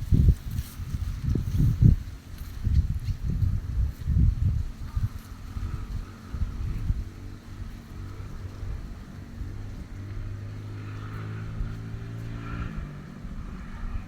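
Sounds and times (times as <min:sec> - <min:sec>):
motor engine running: 0:00.0 - 0:14.0
wind on microphone: 0:00.0 - 0:14.0.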